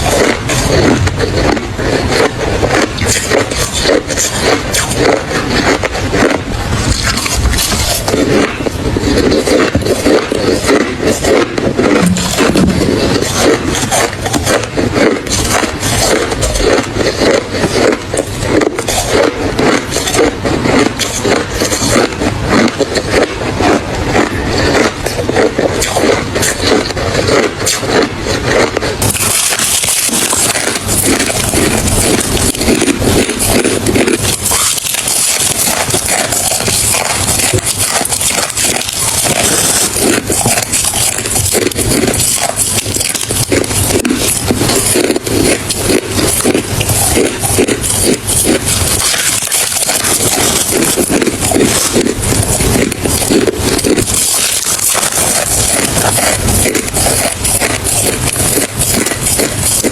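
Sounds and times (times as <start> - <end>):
person chewing ice: 0.0 - 59.9.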